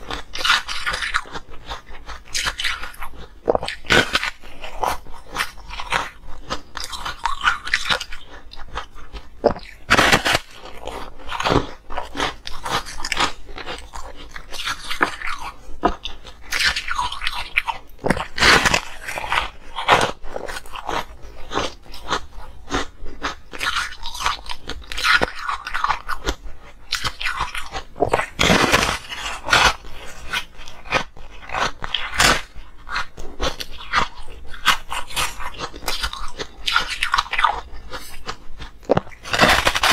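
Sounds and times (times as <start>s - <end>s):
person crunching ice: 0.0s - 39.9s.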